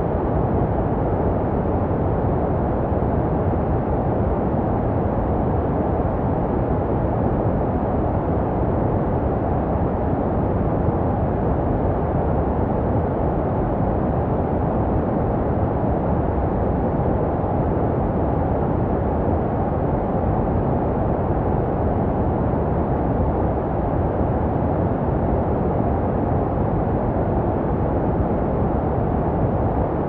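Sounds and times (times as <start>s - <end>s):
deep muffled white noise: 0.0s - 30.0s.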